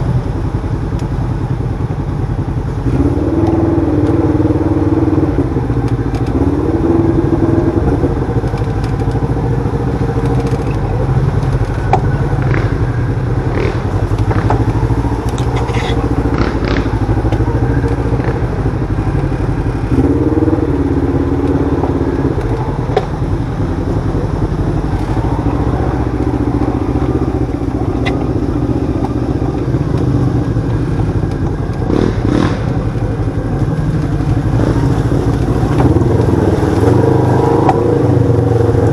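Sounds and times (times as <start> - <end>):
utility vehicle engine running: 0.0 - 38.9.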